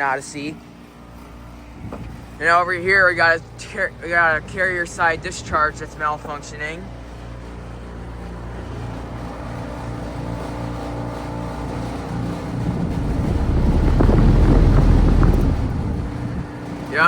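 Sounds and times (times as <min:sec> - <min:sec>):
air conditioner humming: 0:00.0 - 0:17.0
condenser fan rattling: 0:00.0 - 0:17.0.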